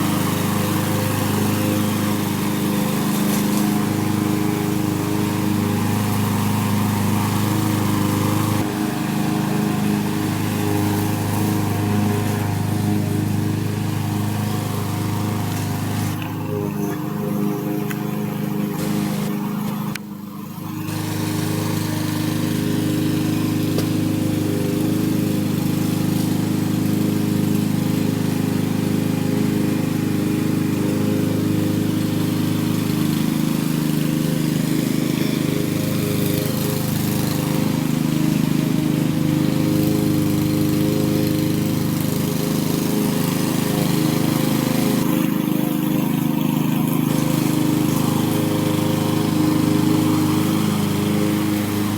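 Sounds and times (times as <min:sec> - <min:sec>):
lawn mower cutting grass: 0:00.0 - 0:51.9.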